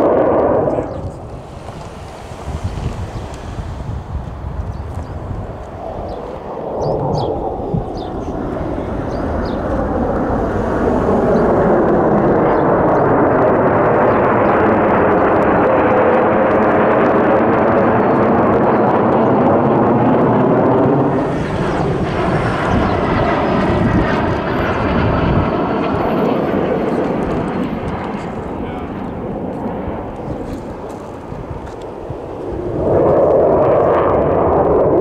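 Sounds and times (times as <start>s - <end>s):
jet engine roar: 0.0s - 35.0s.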